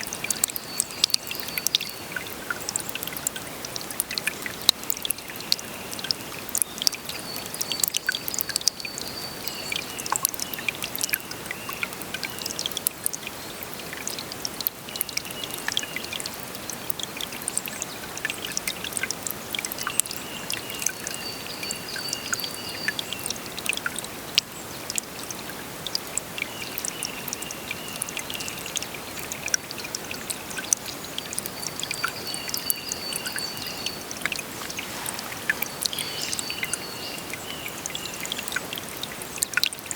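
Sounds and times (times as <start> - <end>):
small water splashes: 0.0 - 39.9
water flowing and trickling: 0.0 - 39.9.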